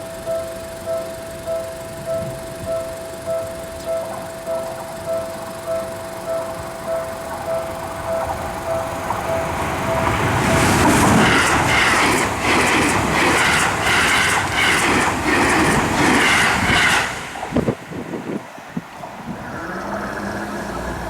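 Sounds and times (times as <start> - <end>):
train wheels clattering: 0.0 - 19.0
level-crossing warning bell: 0.0 - 19.2.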